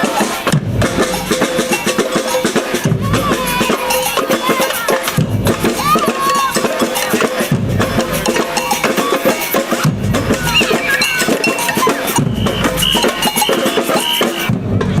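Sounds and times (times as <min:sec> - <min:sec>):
cowbell beat: 0:00.0 - 0:14.6
samba drums: 0:00.0 - 0:15.0.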